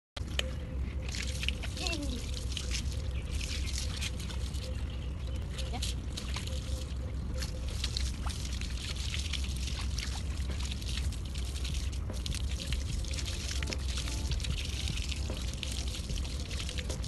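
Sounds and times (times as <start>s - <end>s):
steady low rumble: 0.2s - 17.0s
water splashing from hose: 0.2s - 17.0s.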